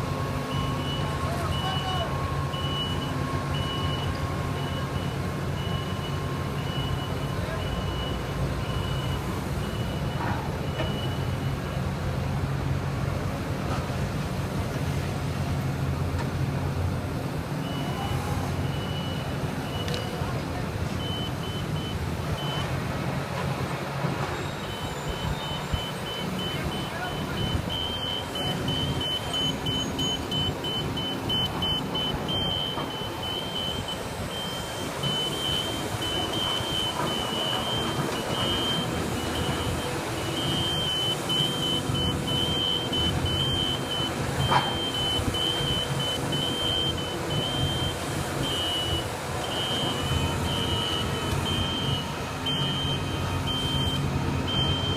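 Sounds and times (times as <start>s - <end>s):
construction machinery engine running: 0.0s - 54.9s
electronic beeping alarm: 0.5s - 11.7s, 17.6s - 20.2s, 21.0s - 22.7s, 24.4s - 54.9s.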